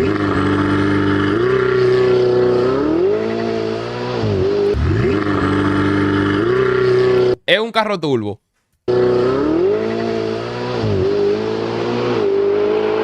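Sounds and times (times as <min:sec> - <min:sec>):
car engine revving hard: 0:00.0 - 0:07.4, 0:08.9 - 0:13.0.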